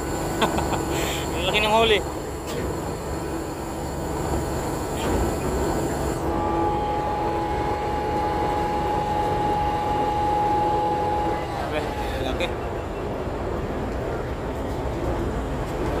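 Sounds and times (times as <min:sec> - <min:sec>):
ship engine rumble: 0:00.0 - 0:16.0
steady whine: 0:00.0 - 0:16.0.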